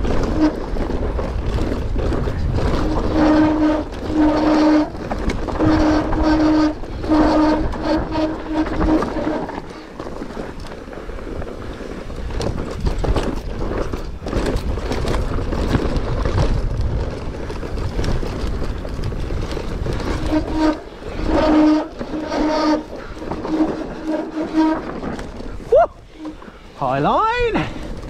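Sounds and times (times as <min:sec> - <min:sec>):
bike rattling over rocks: 0:00.0 - 0:28.0
bike tyres rumbling on dirt: 0:00.0 - 0:28.0.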